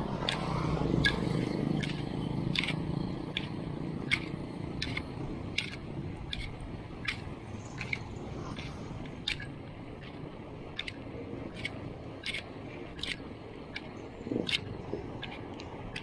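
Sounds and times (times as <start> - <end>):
bicycle ticking: 0.0 - 16.0
motorcycle engine hum: 0.0 - 16.0.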